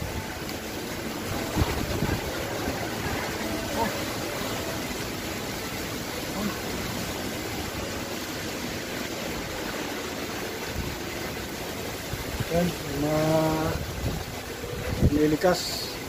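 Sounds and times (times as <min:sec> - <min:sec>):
heavy rain and wind: 0:00.0 - 0:16.0.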